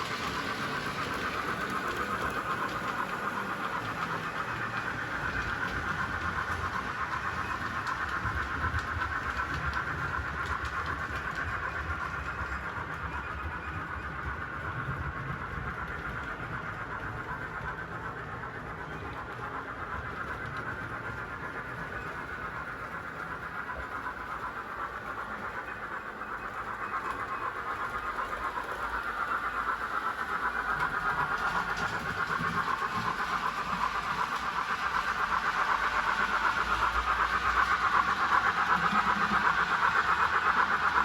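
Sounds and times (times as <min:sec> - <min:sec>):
model train clattering on track: 0:00.0 - 0:41.0.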